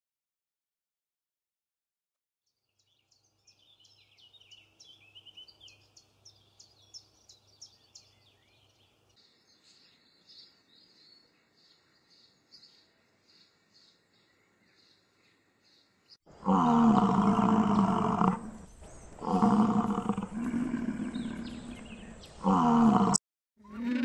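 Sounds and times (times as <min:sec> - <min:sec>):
small songbirds chirping: 0:02.5 - 0:24.0
outdoor background hiss: 0:02.8 - 0:23.2.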